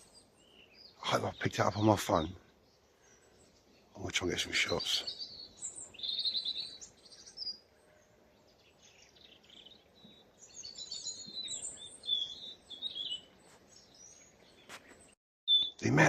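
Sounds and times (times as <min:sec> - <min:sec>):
songbirds chirping and twittering: 0:00.0 - 0:16.0.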